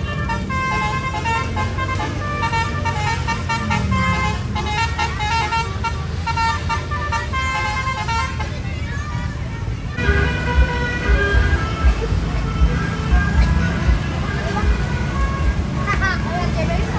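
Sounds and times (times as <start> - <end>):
bus engine rumble: 0.0 - 16.9
multi-tone bus horn melody: 0.0 - 16.9.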